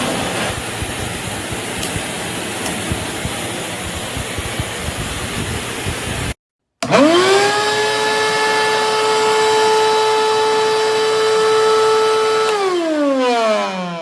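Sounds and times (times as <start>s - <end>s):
shop vacuum motor whine: 0.0s - 14.0s.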